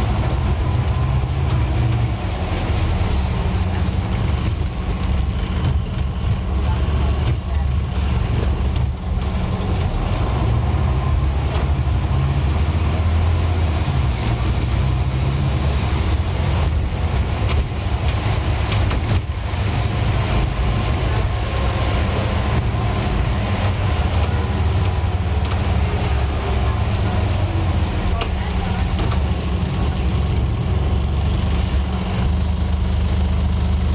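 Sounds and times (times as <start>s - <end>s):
bus diesel engine running: 0.0s - 33.9s
road and body noise: 0.0s - 33.9s.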